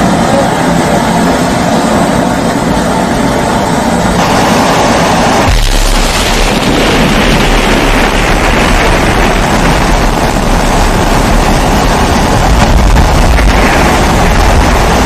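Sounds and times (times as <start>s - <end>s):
kerosene stove burner roaring: 0.0s - 15.0s.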